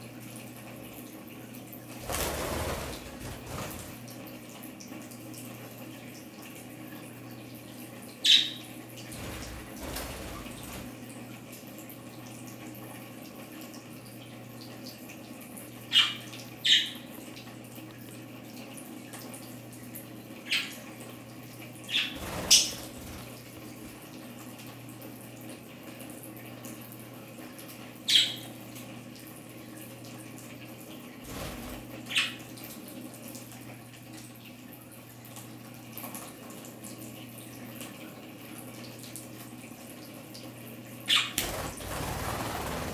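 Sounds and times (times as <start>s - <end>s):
water trickling and dripping: 2.7s - 41.3s.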